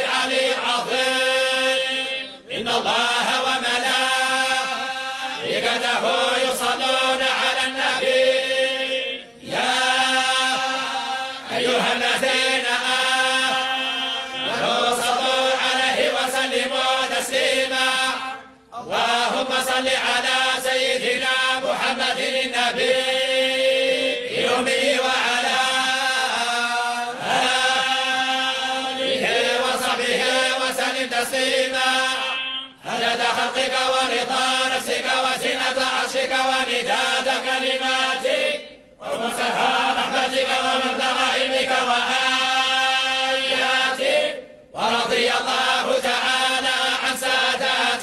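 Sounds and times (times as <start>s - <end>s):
devotional chanting: 0.0s - 48.0s.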